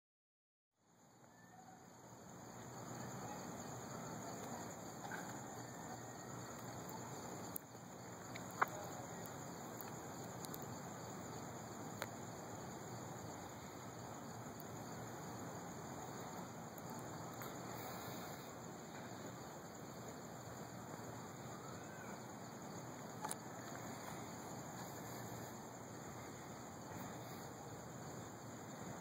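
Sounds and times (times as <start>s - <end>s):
constant hiss: 0.8s - 29.0s
crickets chirring: 0.8s - 29.0s.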